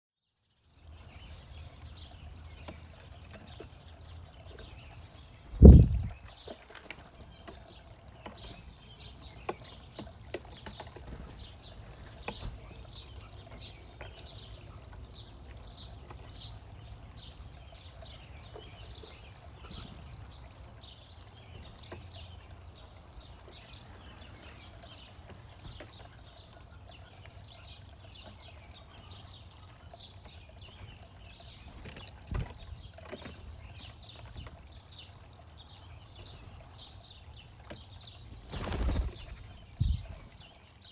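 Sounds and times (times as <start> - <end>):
small birds chirping: 0.2 - 40.9.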